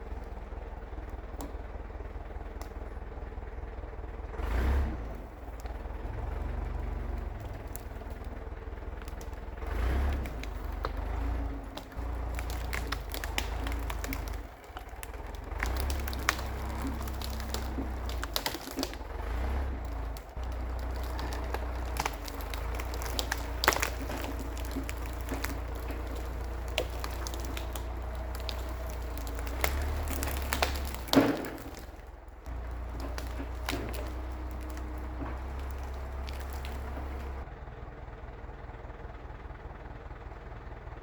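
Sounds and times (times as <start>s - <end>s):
diesel engine running low: 0.0s - 41.0s
sharp cracks and clunks: 4.4s - 37.5s.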